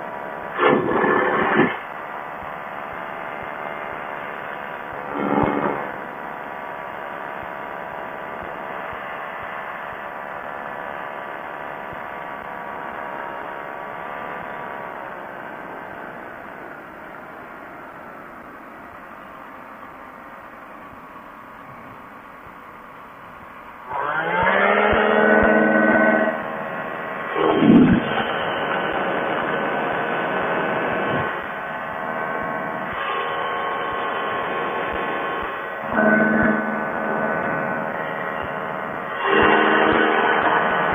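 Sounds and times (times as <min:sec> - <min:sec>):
ultralight engine and propeller: 0:00.0 - 0:23.1, 0:23.7 - 0:40.9.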